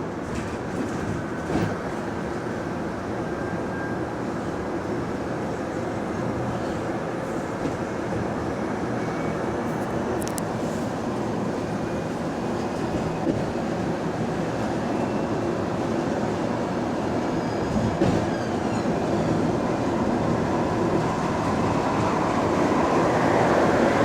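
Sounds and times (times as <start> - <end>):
bus drivetrain and road rumble: 0.0 - 24.0.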